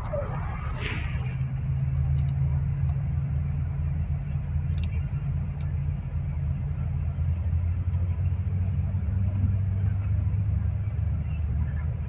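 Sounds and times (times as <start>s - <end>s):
bus engine drone: 0.0s - 12.0s
road rumble: 0.0s - 12.0s.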